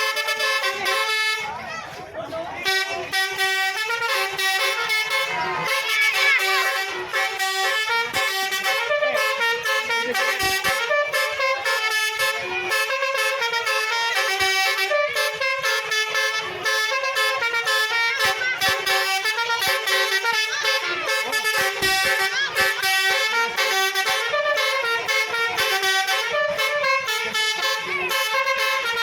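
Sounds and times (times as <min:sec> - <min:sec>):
multi-tone air horn melody: 0:00.0 - 0:29.0.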